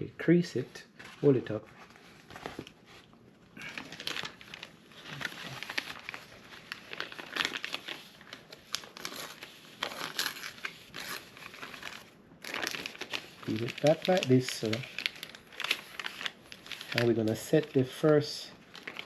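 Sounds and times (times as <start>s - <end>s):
sticky sheet crinkling: 3.6s - 19.0s.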